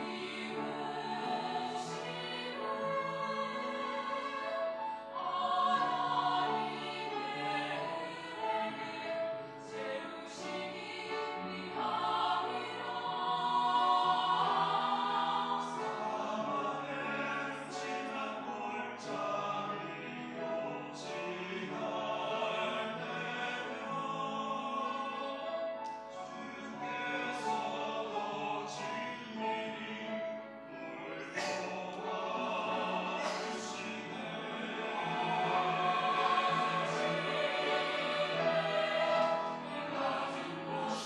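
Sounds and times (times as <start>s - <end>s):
choir singing: 0.0s - 41.0s.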